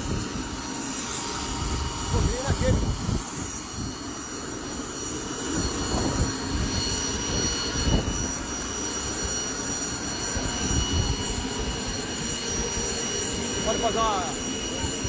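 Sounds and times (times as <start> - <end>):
helicopter turbine engine whine: 0.0 - 15.0.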